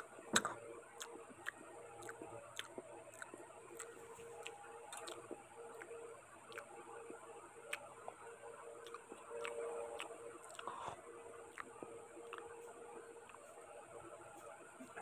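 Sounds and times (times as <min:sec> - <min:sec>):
wet chewing clicks and smacks: 0:00.0 - 0:15.0.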